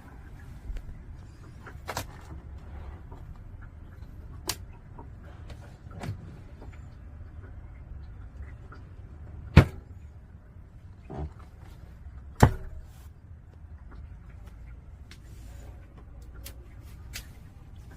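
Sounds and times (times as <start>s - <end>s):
steady low rumble: 0.0s - 17.9s.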